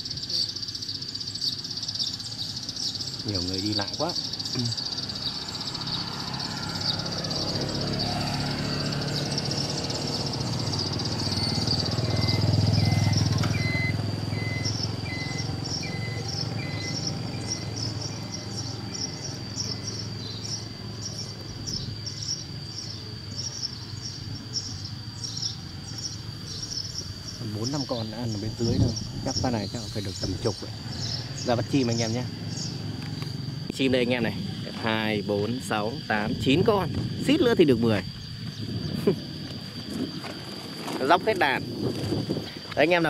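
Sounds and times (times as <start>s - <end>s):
sparrows chirping: 0.0s - 40.2s
insect trill: 0.0s - 43.0s
passing vehicle rumble: 2.3s - 43.0s.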